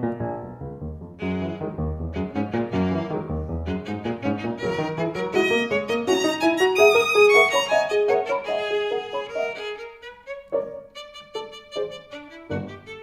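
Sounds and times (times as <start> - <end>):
violin playing fast notes: 1.2 - 13.0.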